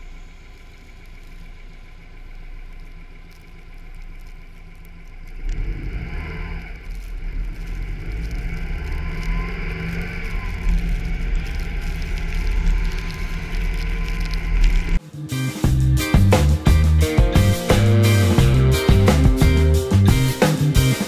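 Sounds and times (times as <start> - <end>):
car pulling away: 0.0 - 15.0, 15.6 - 21.0
road noise on snow: 0.0 - 15.0, 15.7 - 21.0
car engine idling: 0.0 - 21.0.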